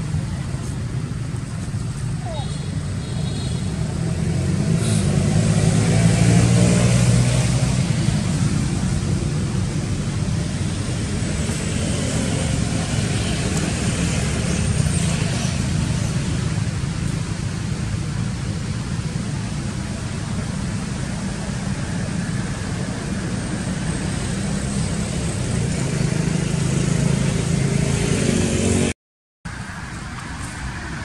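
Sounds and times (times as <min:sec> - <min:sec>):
vehicle engine rumbling: 0:00.0 - 0:28.9, 0:29.5 - 0:31.0.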